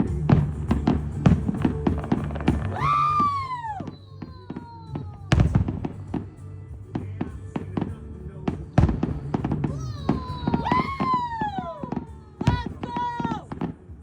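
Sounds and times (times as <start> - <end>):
whistling firework: 0.0 - 6.3, 8.8 - 13.8
fireworks bangs and crackles: 0.0 - 14.0.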